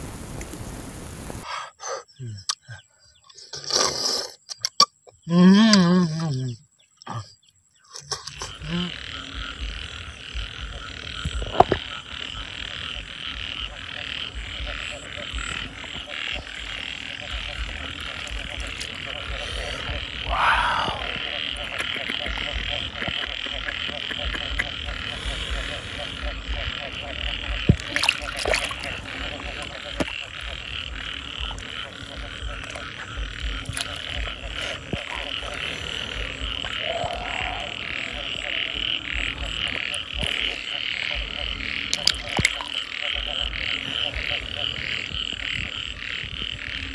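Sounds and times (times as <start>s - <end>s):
chorus of frogs calling: 1.4s - 46.9s.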